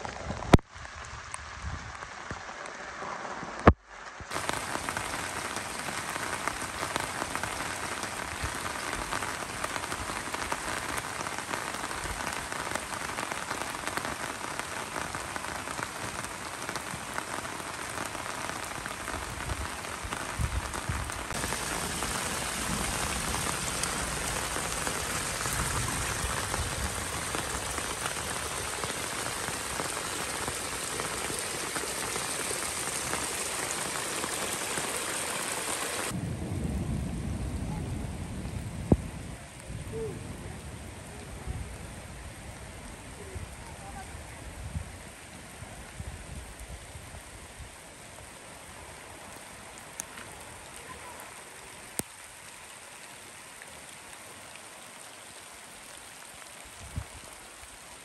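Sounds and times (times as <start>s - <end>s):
heavy rain splashing into puddles: 0.0s - 58.0s.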